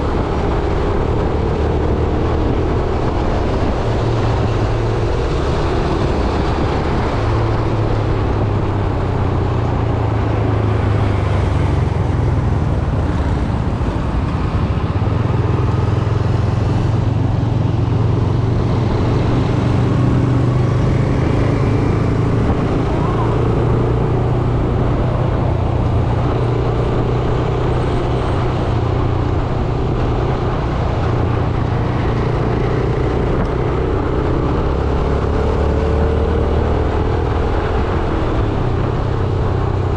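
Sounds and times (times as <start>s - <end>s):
motorcycle engine running: 0.0s - 35.4s
road traffic: 0.0s - 39.9s
wind noise: 0.0s - 39.9s.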